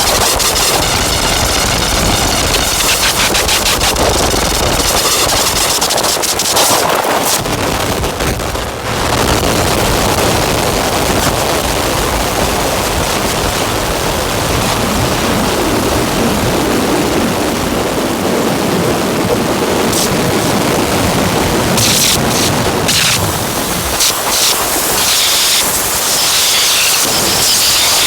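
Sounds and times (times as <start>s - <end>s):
distorted synthesizer noise drone: 0.0s - 28.0s.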